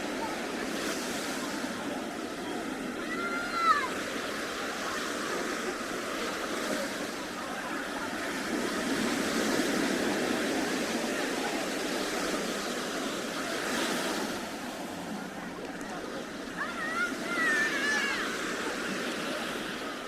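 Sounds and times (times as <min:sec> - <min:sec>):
ocean surf washing onto beach: 0:00.0 - 0:20.0.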